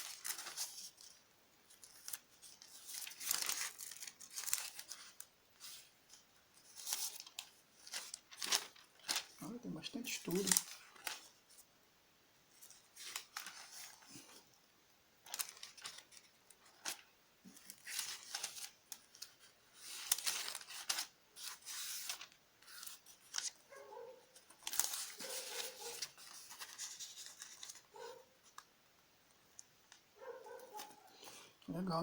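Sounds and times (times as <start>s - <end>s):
pages rustling as turned: 0.0s - 11.7s, 12.5s - 14.6s, 15.2s - 28.7s.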